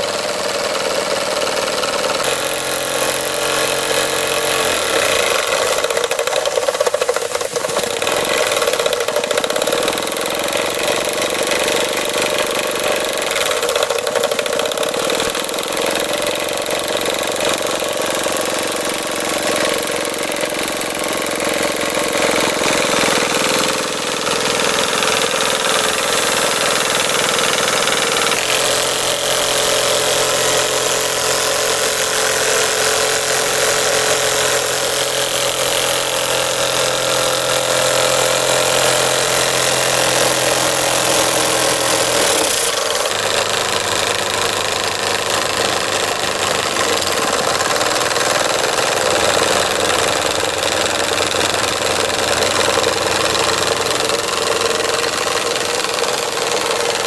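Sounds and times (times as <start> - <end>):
model steam engine running: 0.0 - 57.0.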